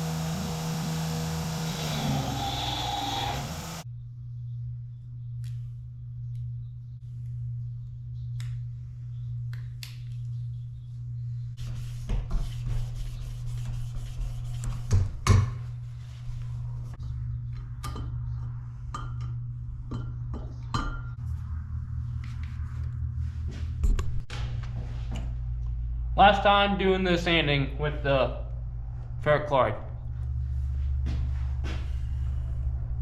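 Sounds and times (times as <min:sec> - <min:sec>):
steady low hum: 0:00.0 - 0:14.7, 0:15.5 - 0:33.0.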